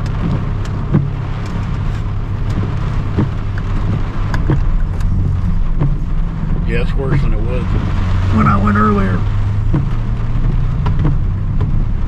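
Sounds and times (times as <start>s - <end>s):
car driving on wet road: 0.0s - 12.0s
rain ticking on car: 0.0s - 12.0s.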